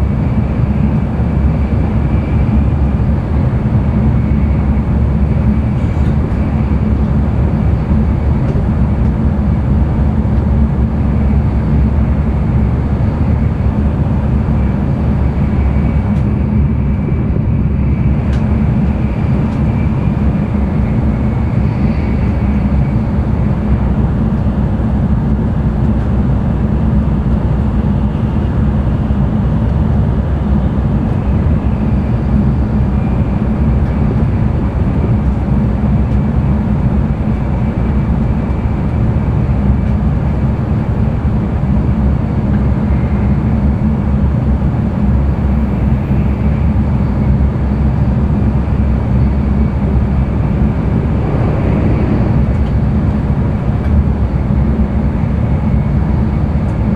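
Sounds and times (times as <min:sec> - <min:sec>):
train running at speed: 0:00.0 - 0:56.9.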